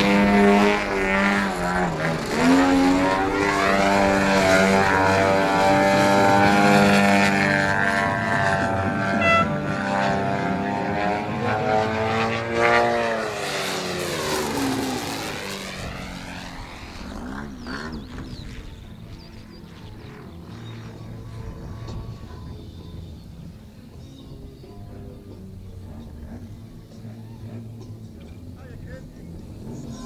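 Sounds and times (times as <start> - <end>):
model plane engine: 0.0 - 8.2, 13.2 - 30.0.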